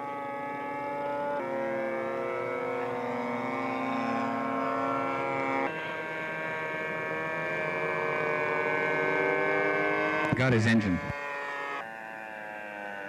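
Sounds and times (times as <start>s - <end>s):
model airplane engines running: 0.0s - 13.0s.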